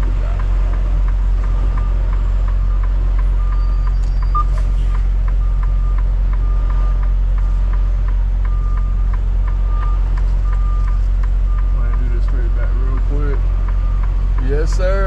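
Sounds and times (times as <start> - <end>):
diesel truck engine idling: 0.0 - 15.0
faint ticking: 0.0 - 15.0
back-up alarm beeping: 1.4 - 4.6, 5.3 - 7.6, 8.4 - 15.0.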